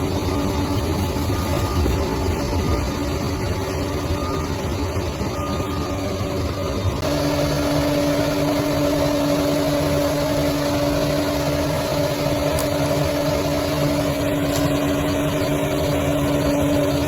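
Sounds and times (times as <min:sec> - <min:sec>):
diesel engine running: 0:00.0 - 0:17.0
steady whine: 0:00.0 - 0:17.0.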